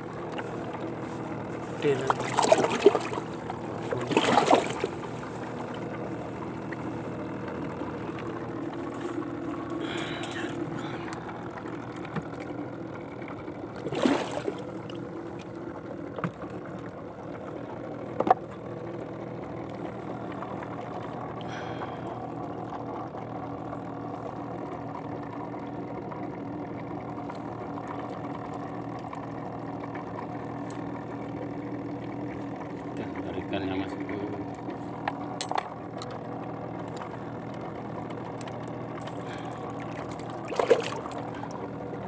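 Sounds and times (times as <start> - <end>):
small boat engine running: 0.0 - 42.0.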